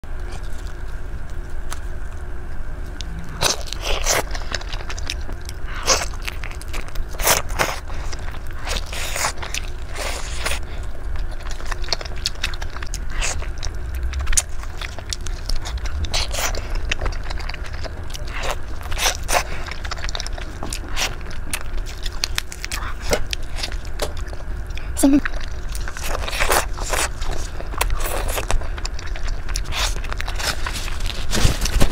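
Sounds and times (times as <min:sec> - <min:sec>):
steady low hum: 0:00.0 - 0:31.9
wet chewing and smacking: 0:00.2 - 0:31.9.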